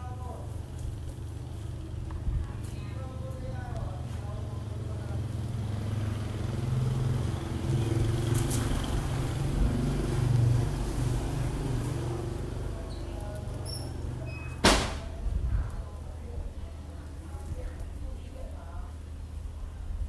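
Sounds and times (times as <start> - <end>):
electric fan humming: 0.0 - 19.7.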